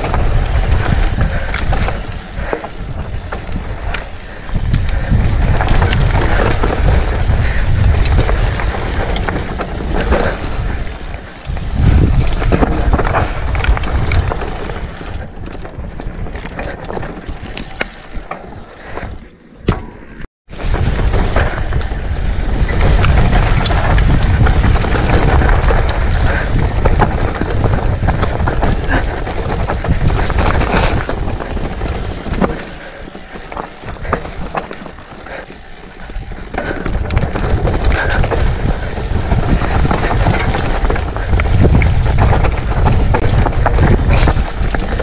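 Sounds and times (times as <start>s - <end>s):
bike tyres rolling over dirt: 0.0s - 19.9s, 20.5s - 45.0s
wind rumble on microphone: 0.0s - 19.9s, 20.5s - 45.0s
bike rattling: 0.0s - 45.0s.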